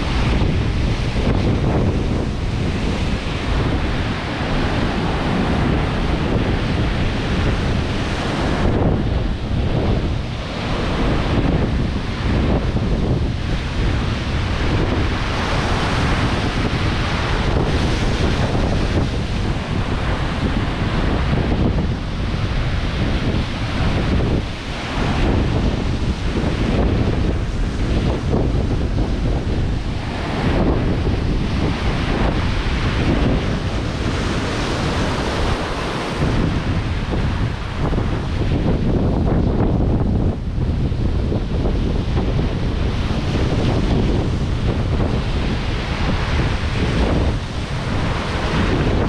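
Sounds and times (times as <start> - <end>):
ocean surf breaking: 0.0 - 49.0
wind on microphone: 0.0 - 49.0.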